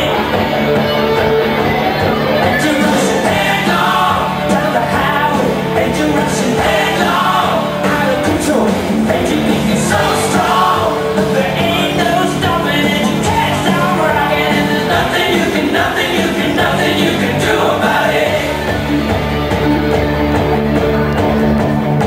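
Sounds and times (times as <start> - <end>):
song with singer over beat: 2.1 - 20.0.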